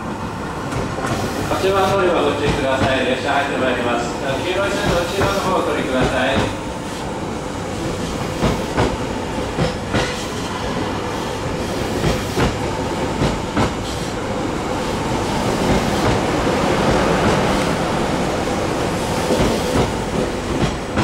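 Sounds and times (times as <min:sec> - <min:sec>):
electric train rolling rumble: 0:00.0 - 0:21.0.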